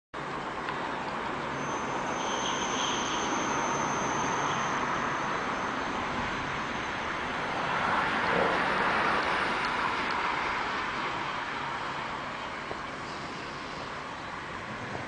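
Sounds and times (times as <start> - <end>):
high steady whine: 0.2 - 15.0
train passing rumble: 0.2 - 15.0.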